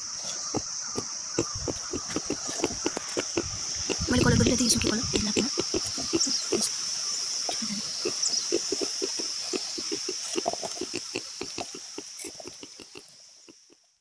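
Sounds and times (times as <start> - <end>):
fingers dabbing wet paint: 0.5 - 6.7, 8.0 - 13.7.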